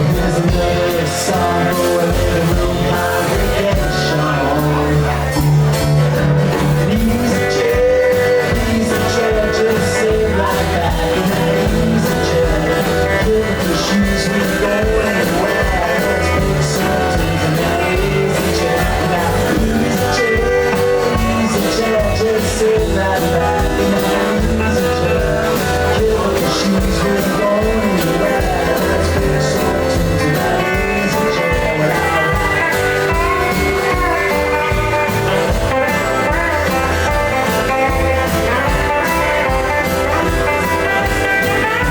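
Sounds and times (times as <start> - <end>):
live blues-rock band playing: 0.0 - 41.9.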